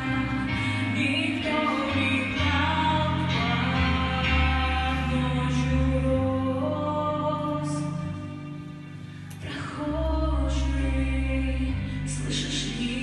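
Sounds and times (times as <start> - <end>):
song with singing and bass: 0.0 - 13.0.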